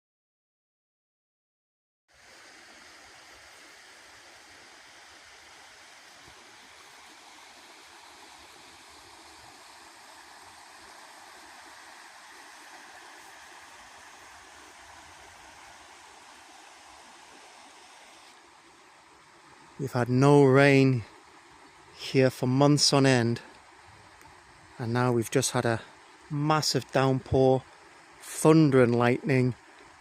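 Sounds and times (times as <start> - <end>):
running water rushing: 2.1 - 30.0.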